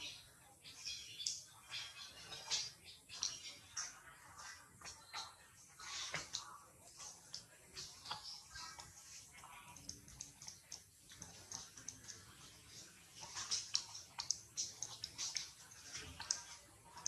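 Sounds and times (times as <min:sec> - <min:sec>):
monkeys clicking and smacking: 0:00.0 - 0:17.0.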